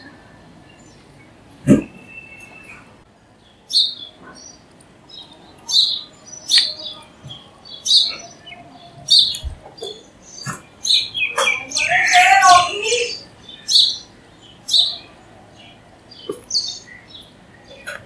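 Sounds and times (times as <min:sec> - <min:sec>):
sparrow chirping: 0:00.7 - 0:18.0.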